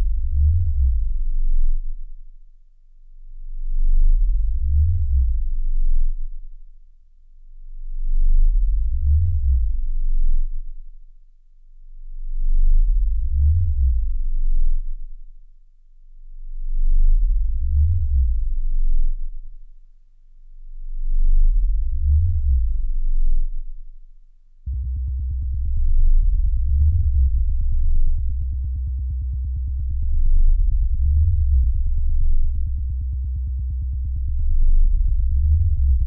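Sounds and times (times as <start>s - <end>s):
deep electronic sine drone: 0.0s - 2.3s, 3.1s - 6.6s, 7.5s - 11.0s, 11.8s - 15.4s, 16.2s - 19.6s, 20.5s - 24.1s, 24.7s - 36.0s.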